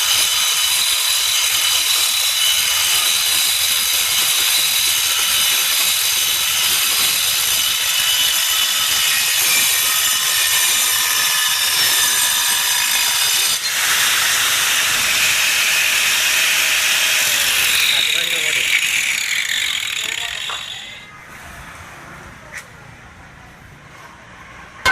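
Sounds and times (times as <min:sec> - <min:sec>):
angle grinder whining: 0:00.0 - 0:21.1.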